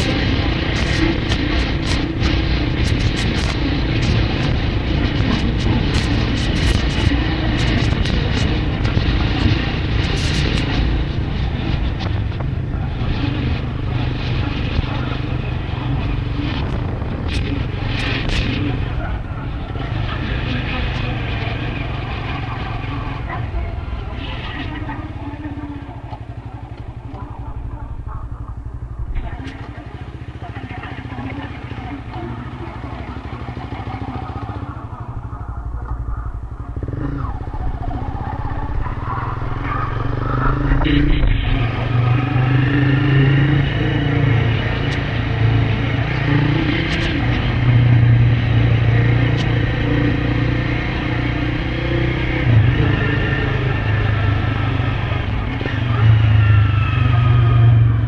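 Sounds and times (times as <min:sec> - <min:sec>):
engine throbbing: 0:00.0 - 0:58.0
low rumbling hum: 0:00.0 - 0:58.0.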